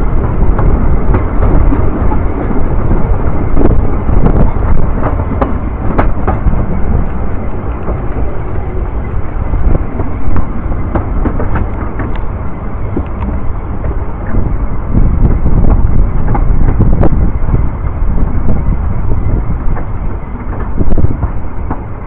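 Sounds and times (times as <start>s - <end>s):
railway carriage rumbling: 0.0s - 22.0s
wind buffeting microphone: 0.0s - 22.0s.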